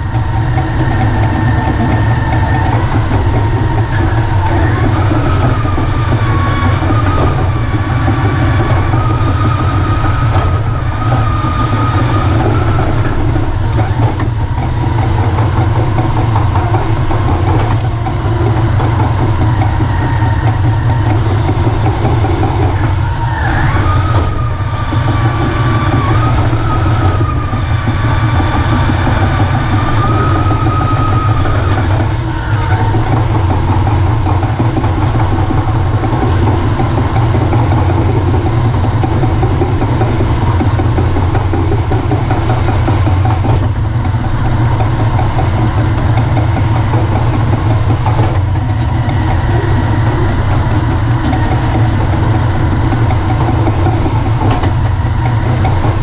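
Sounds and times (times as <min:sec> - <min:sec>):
diesel engine running: 0:00.0 - 0:56.0
wavering high whine: 0:00.0 - 0:56.0.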